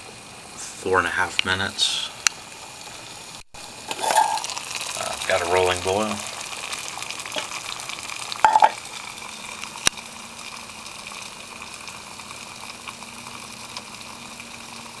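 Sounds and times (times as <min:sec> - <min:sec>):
water boiling in kettle: 0:00.0 - 0:15.0.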